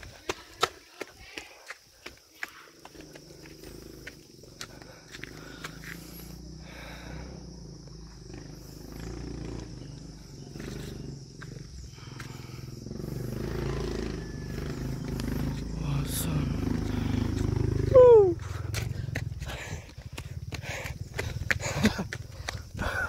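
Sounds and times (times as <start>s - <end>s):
motorcycle engine: 2.9s - 23.0s.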